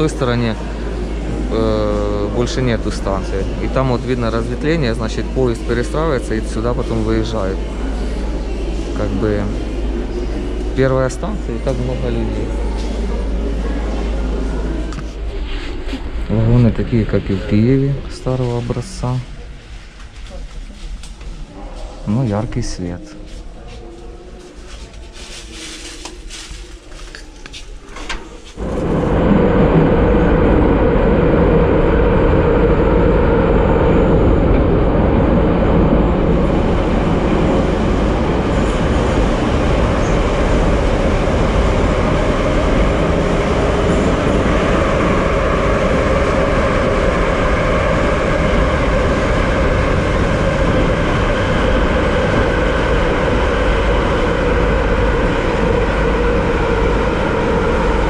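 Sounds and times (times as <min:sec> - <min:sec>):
metro train wheels rumbling: 0:00.0 - 0:58.0.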